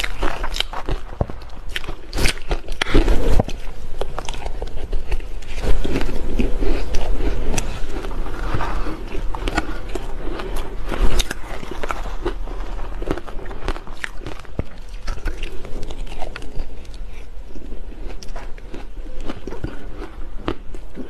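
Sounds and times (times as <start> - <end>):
crunching and chewing ice: 0.0 - 21.0.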